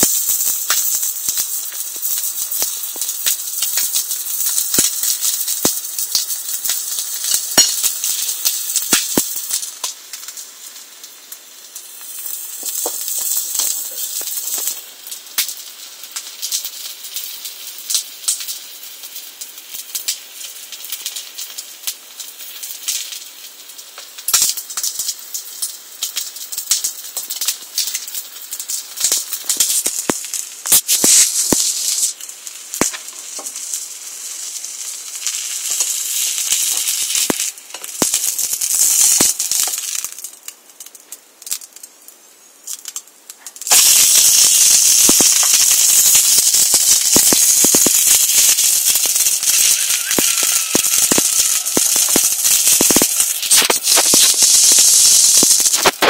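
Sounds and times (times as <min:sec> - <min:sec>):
egg sizzling in oil: 0:00.0 - 0:56.0.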